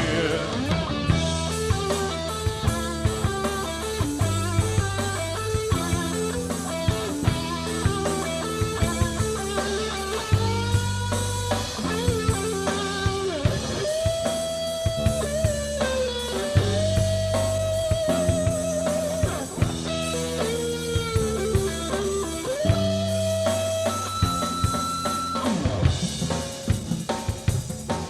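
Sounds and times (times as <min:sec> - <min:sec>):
lead guitar bending notes: 0:00.0 - 0:26.1
rock band playing live: 0:00.0 - 0:28.0.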